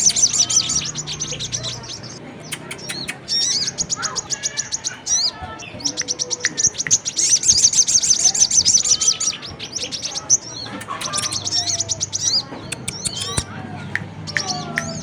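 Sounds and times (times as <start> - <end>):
bird chirping trills: 0.0 - 15.0.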